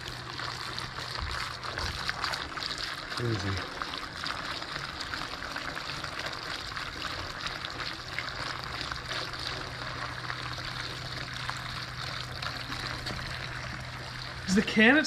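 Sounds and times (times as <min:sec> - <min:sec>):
gasoline pouring through a funnel: 0:00.0 - 0:15.0.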